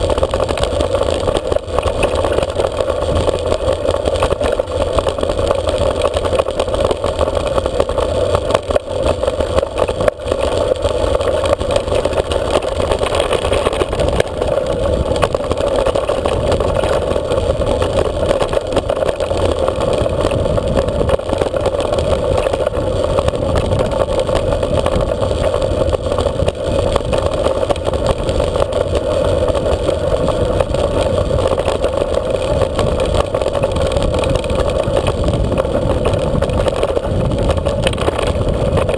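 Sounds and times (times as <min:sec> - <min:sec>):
tyres rattling on gravel: 0:00.0 - 0:38.9
wind over microphone: 0:00.0 - 0:38.9.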